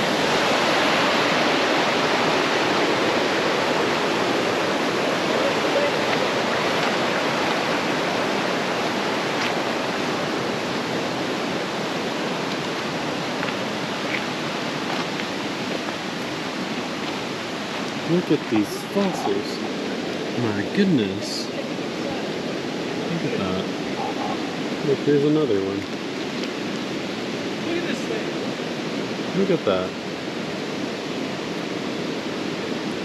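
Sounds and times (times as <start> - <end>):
creek water rushing over rocks: 0.0 - 33.0.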